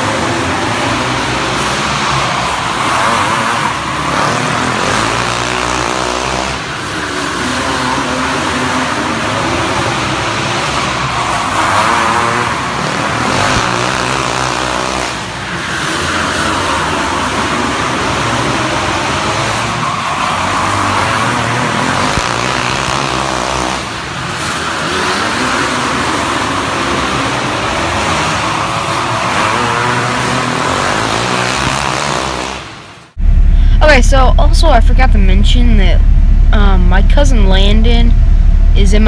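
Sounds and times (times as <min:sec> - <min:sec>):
go-kart engines racing: 0:00.0 - 0:39.0.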